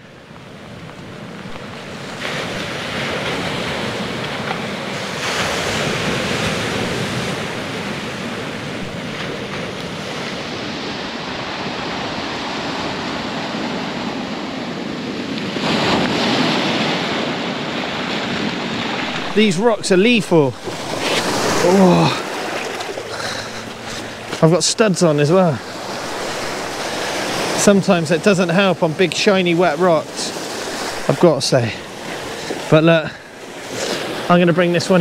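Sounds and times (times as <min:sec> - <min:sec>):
sea waves washing onto shore: 0:00.0 - 0:35.0.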